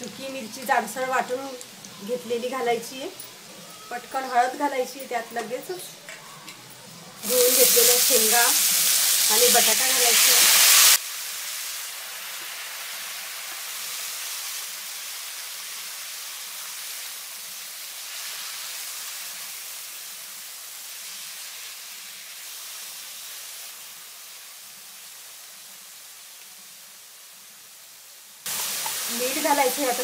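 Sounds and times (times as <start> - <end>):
vegetables sizzling in hot oil: 0.0 - 6.0, 7.2 - 30.0.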